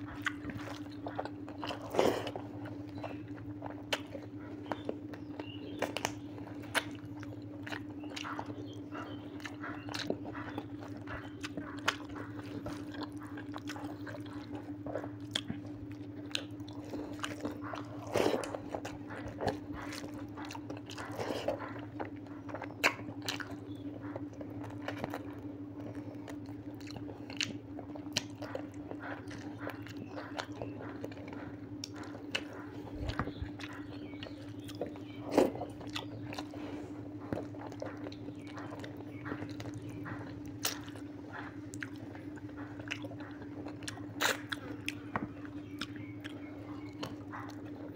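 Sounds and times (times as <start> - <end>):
person chewing and biting food: 0.0 - 47.9
steady low hum: 0.0 - 47.9.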